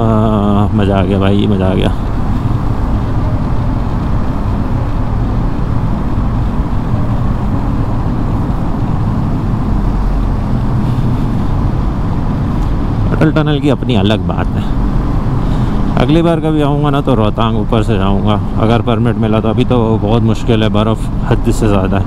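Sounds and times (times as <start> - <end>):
road noise: 0.0 - 22.0.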